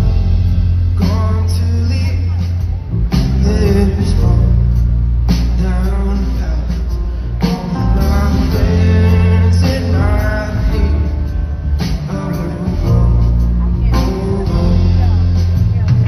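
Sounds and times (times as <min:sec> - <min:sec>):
live rock band playing: 0:00.0 - 0:16.0
man singing: 0:00.9 - 0:15.6.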